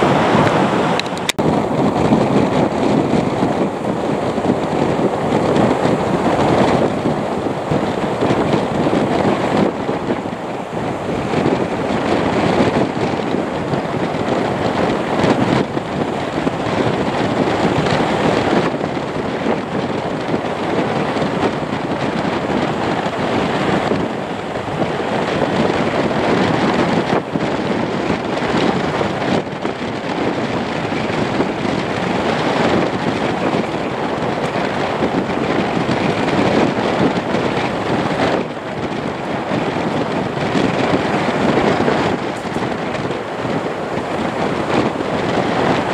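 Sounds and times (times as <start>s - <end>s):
turboprop engines running: 0.0s - 45.9s
wind buffeting microphone: 0.0s - 45.9s.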